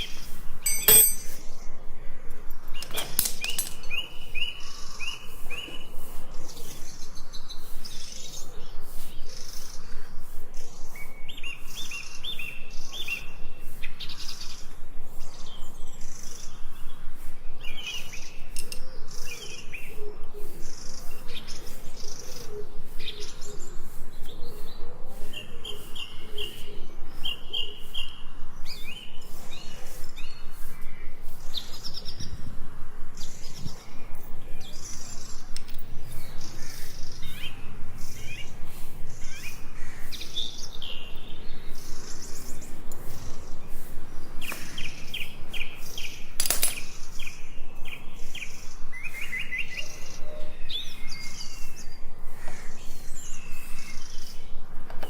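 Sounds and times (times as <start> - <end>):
birds chirping: 0.0 - 1.8, 2.8 - 32.5, 33.1 - 55.0.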